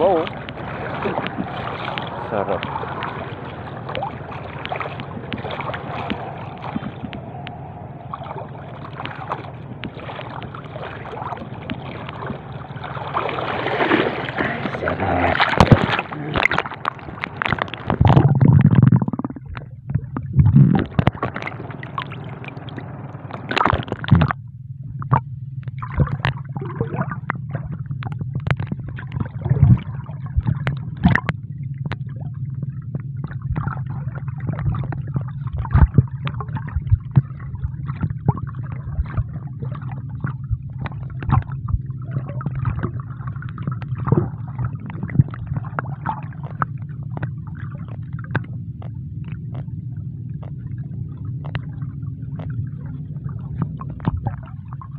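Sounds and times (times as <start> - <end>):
underwater clicks and crackles: 0.0 - 54.9
underwater rumble: 0.0 - 54.9.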